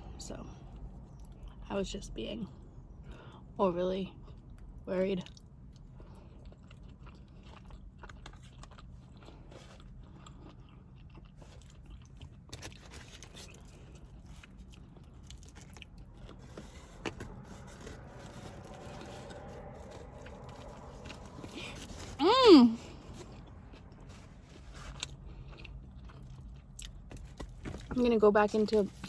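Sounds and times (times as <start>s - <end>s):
person chewing food: 4.2s - 27.9s.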